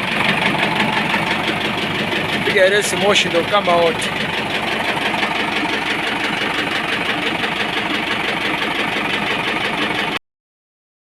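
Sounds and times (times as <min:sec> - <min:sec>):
tractor diesel engine running: 0:00.0 - 0:10.2.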